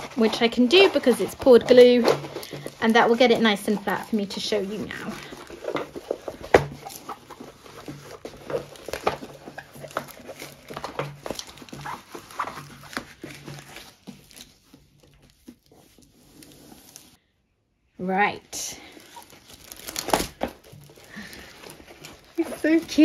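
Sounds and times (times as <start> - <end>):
paper rustling and crinkling: 0.0 - 17.2, 18.8 - 23.0.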